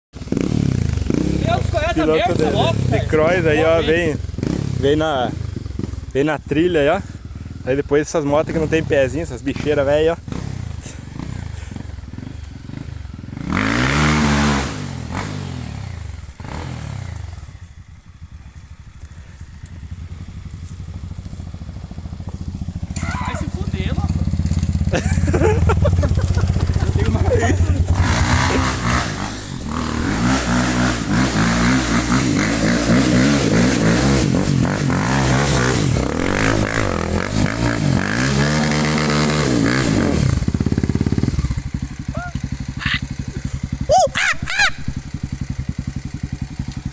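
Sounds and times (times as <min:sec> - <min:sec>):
dirt bike revving past: 0:00.2 - 0:06.9, 0:08.4 - 0:18.0, 0:19.5 - 0:46.9
engines idling: 0:00.2 - 0:13.8, 0:14.8 - 0:46.9.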